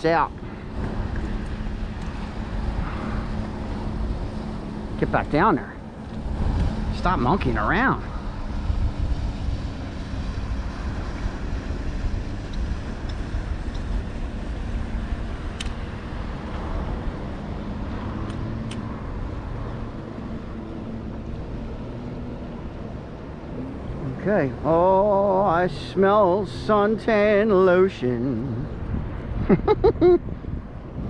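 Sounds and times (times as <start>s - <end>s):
boat motor rumbling: 0.0s - 29.4s.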